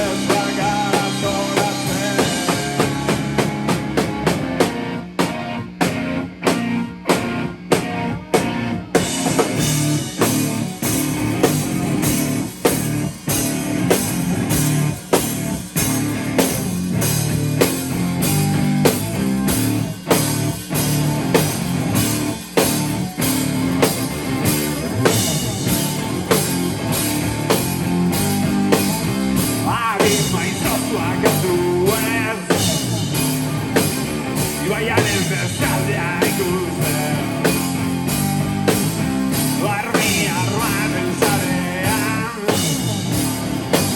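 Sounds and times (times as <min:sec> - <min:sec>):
drum kit beat: 0:00.0 - 0:43.9
electric guitar: 0:00.0 - 0:43.9.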